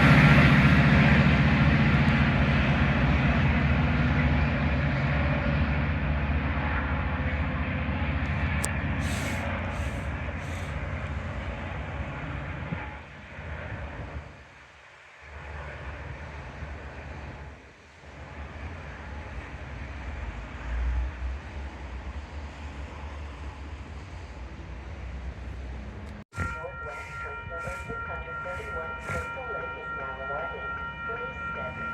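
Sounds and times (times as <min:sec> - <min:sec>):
train rumbling past: 0:00.0 - 0:31.9.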